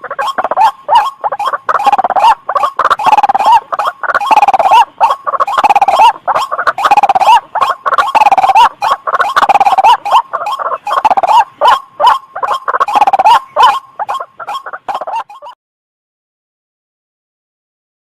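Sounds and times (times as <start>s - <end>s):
bird pulsing calls: 0.0s - 15.6s.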